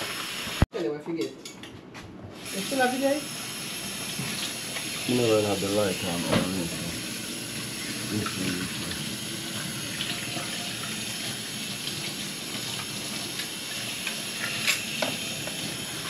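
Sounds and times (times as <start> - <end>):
water running: 0.0 - 0.7, 2.4 - 16.0.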